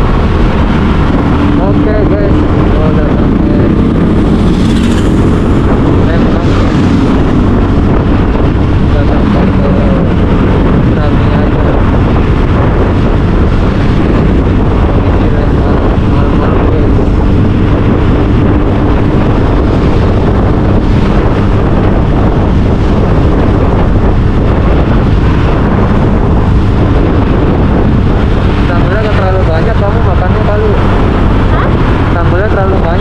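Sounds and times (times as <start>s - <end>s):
motorcycle engine: 0.0s - 33.0s
road noise: 0.0s - 33.0s
wind buffeting microphone: 0.0s - 33.0s.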